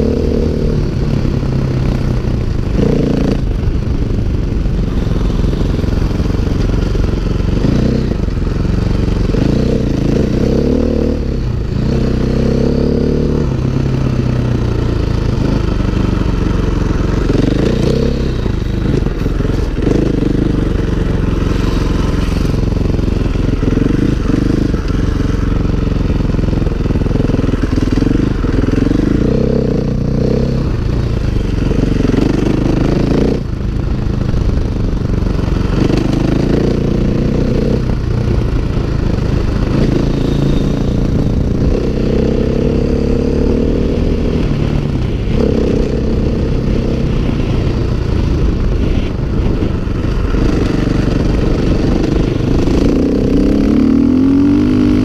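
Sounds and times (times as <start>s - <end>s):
dirt bike engine revving: 4.6s - 33.5s, 38.7s - 55.0s.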